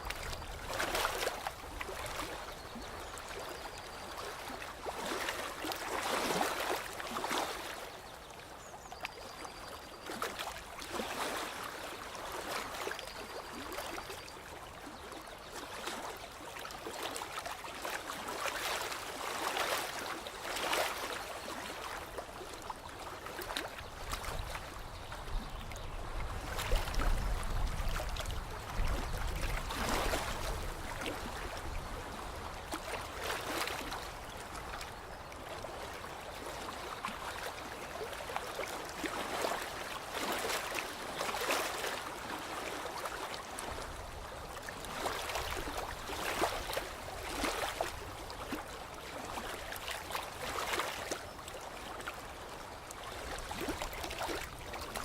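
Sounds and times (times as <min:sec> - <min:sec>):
lake water lapping: 0:00.0 - 0:55.0.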